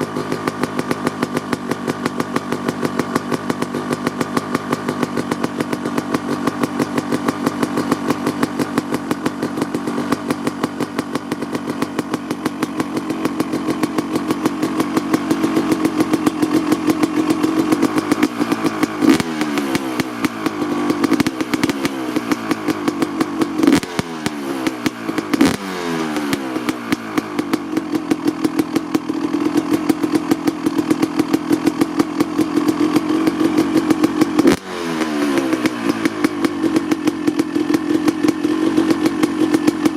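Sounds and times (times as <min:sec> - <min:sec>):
two-stroke engine idling and revving: 0:00.0 - 0:39.9.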